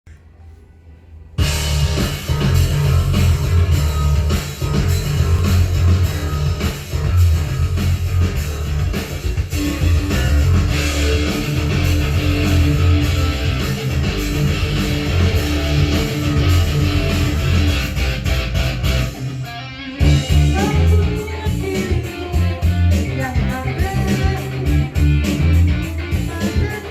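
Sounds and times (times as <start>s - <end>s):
bass guitar: 1.4s - 26.9s
drum kit beat: 1.4s - 26.9s
electric guitar: 1.4s - 26.9s.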